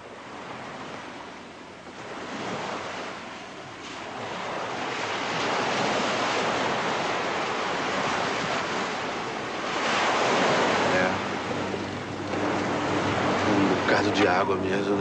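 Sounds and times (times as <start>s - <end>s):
sea waves washing: 0.0s - 15.0s
wind: 0.0s - 15.0s.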